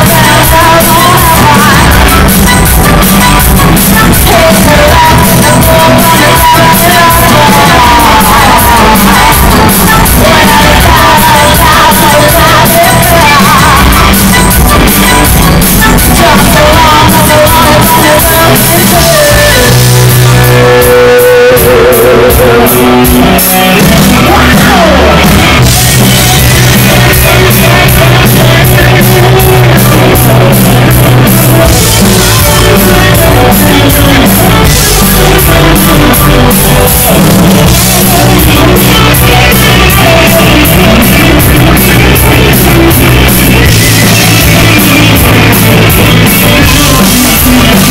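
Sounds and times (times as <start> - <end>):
drums: 0.0 - 47.9
electric guitars: 0.0 - 47.9
person singing: 0.0 - 47.9.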